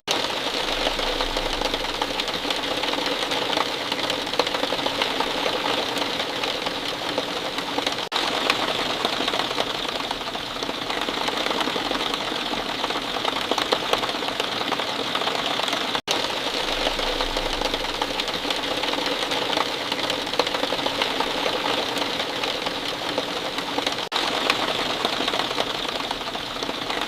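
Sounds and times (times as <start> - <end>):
steady rain falling: 0.1 - 27.0.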